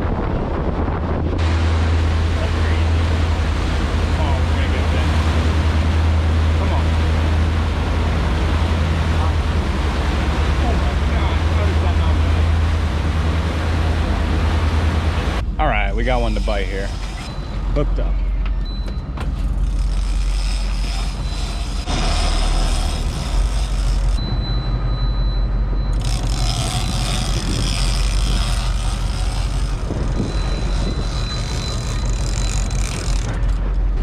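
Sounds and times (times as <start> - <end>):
rushing wind: 0.0 - 20.0, 20.6 - 34.0
boat engine running: 0.0 - 34.0
water noise: 0.0 - 34.0.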